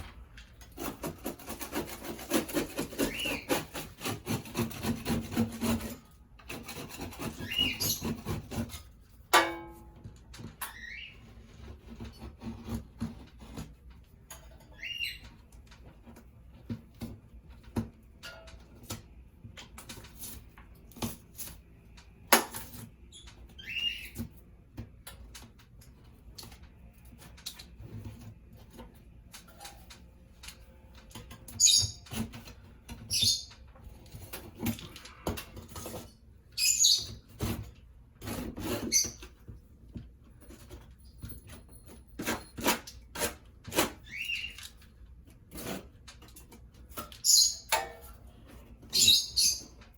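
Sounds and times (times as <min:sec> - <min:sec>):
tools tapping and scraping drywall: 0:00.0 - 0:49.9.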